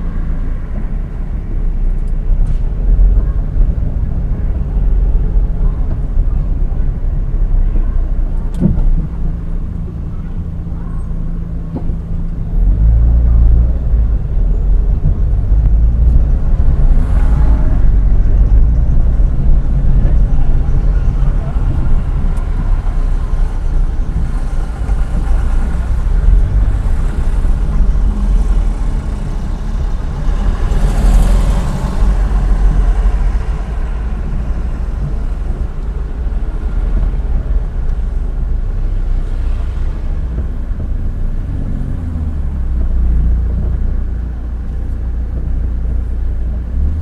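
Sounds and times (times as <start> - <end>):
car engine and road rumble: 0.0 - 47.0
rush of noise: 0.0 - 47.0.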